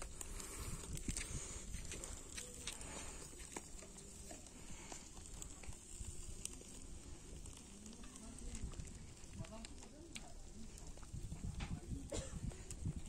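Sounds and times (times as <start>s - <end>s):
fish crackling on a grill: 0.0s - 13.0s.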